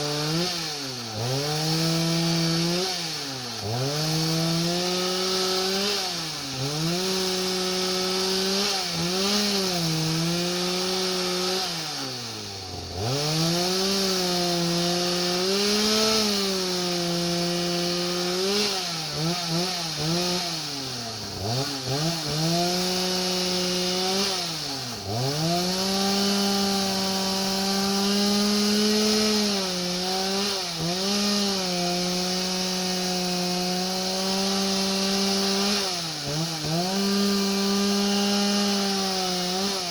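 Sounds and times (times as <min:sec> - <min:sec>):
chainsaw milling at high revs: 0:00.0 - 0:39.9.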